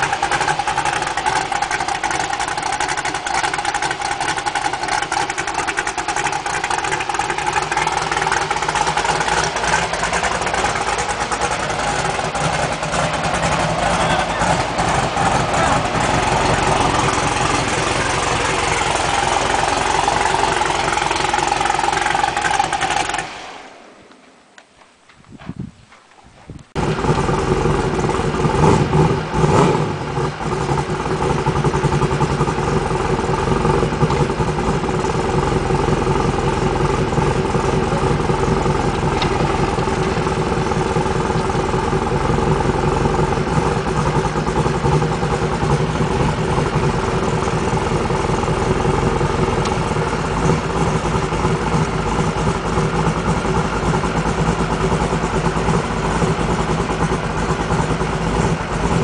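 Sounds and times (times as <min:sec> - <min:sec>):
vehicle engine idling: 0:00.0 - 0:25.2, 0:26.5 - 0:59.0.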